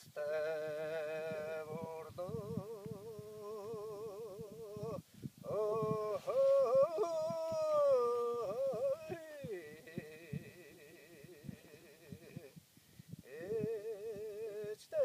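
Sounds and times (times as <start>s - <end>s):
person singing with vibrato: 0.0s - 12.6s, 13.2s - 15.0s.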